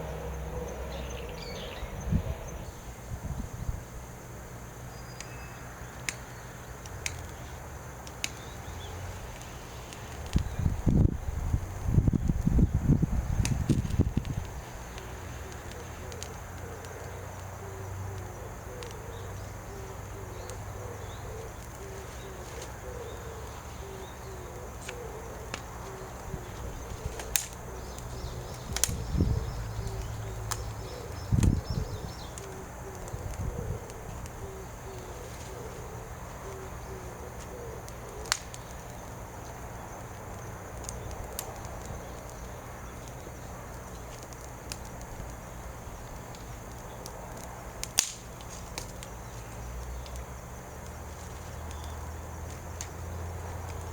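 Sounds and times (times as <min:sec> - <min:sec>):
wood fire snapping: 0:04.6 - 0:53.9.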